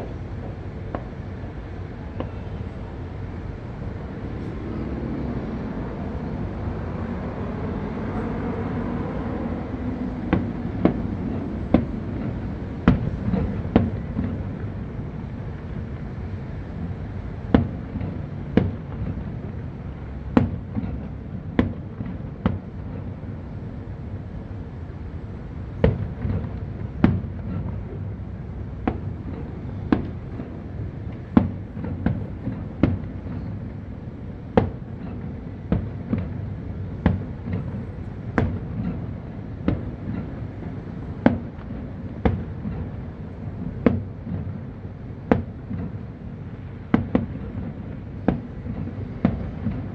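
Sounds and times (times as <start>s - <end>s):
low background noise: 0.0s - 49.9s.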